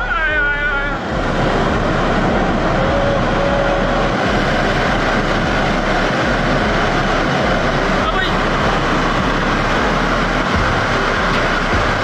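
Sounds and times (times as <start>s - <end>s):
landslide roaring into river: 0.0s - 12.0s.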